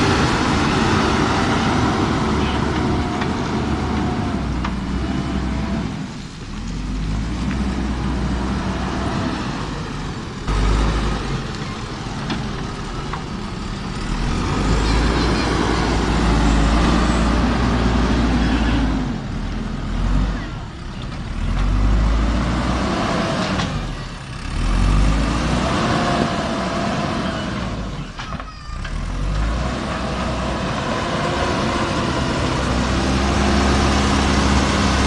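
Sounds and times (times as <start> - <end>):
diesel engine under load: 0.0 - 35.0.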